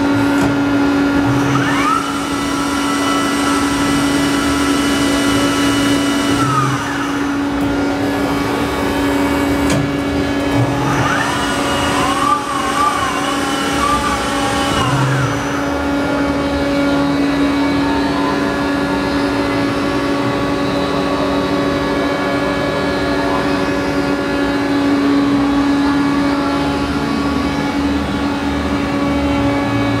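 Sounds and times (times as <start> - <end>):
machine hum: 0.0 - 30.0
warbling whine: 0.0 - 30.0.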